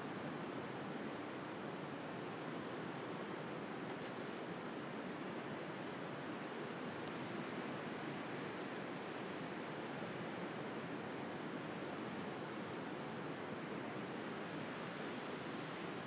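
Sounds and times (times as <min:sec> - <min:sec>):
faint campfire crackles: 0:00.1 - 0:16.0.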